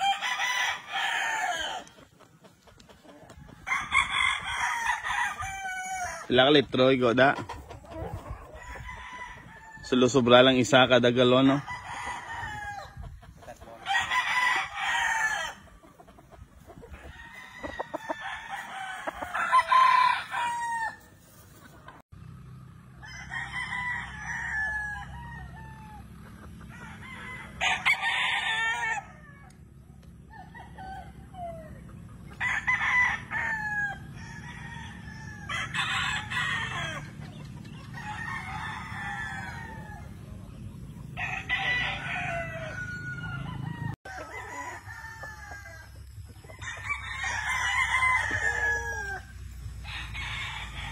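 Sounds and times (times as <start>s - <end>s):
roosters crowing: 0.0s - 22.0s, 22.7s - 50.9s.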